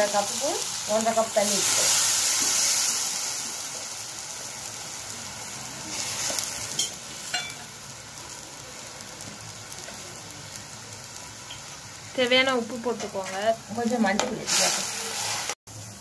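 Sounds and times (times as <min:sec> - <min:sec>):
water sizzling in hot oil: 0:00.0 - 0:16.0.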